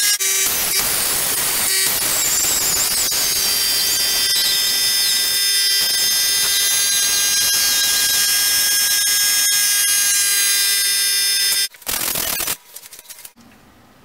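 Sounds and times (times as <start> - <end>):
die grinder whining: 0.0 - 11.7.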